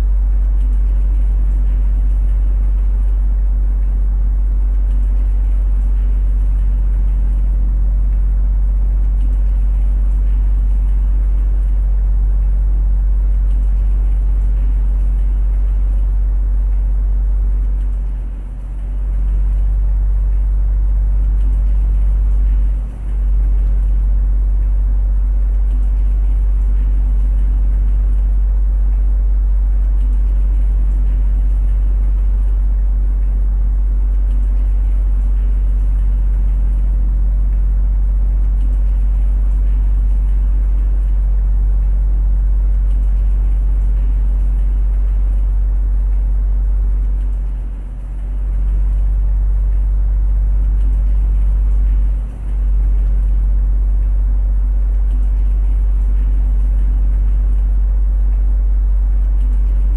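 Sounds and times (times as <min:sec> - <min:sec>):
electric fan humming: 0:00.0 - 0:59.9.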